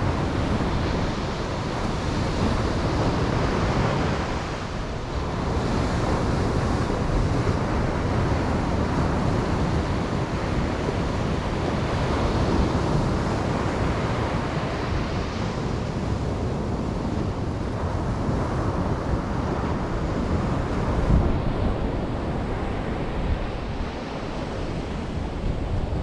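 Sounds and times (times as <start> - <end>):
ocean surf washing onto beach: 0.0 - 26.0
wind buffeting microphone: 0.0 - 26.0.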